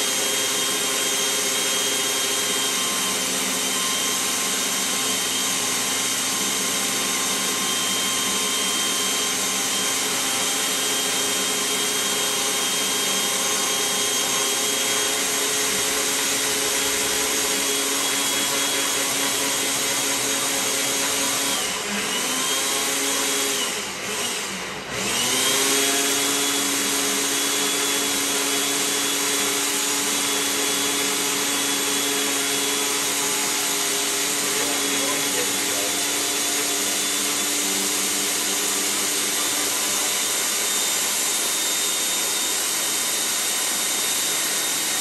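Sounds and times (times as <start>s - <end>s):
blender motor whining: 0.0s - 45.0s.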